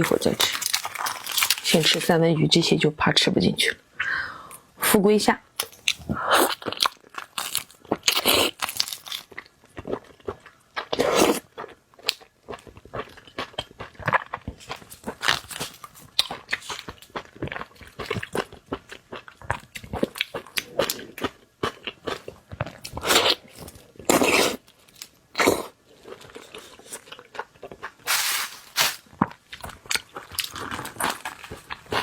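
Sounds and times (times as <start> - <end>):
wet chewing and crunching: 0.0 - 2.1, 5.6 - 32.0.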